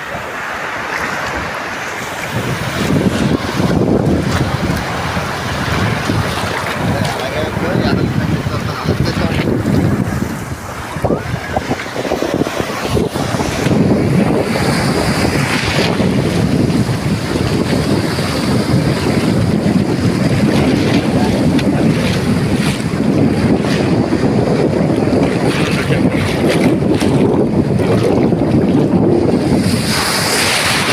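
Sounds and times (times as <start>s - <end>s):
sea surf washing on beach: 0.0s - 30.9s
wind buffeting microphone: 0.0s - 30.9s.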